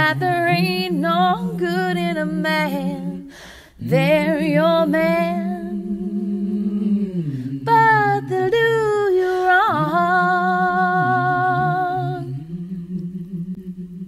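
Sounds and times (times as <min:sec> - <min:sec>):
woman singing unaccompanied: 0:00.0 - 0:05.7, 0:07.6 - 0:13.6.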